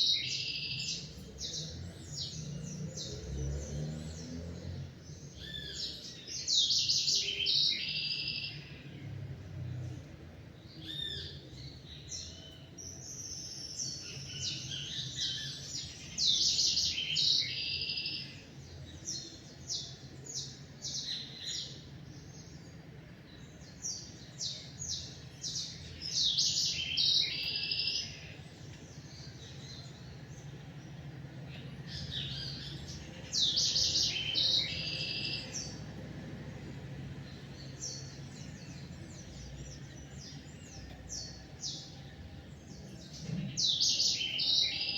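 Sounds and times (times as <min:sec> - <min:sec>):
bird song of high chirping notes: 0:00.0 - 0:44.9.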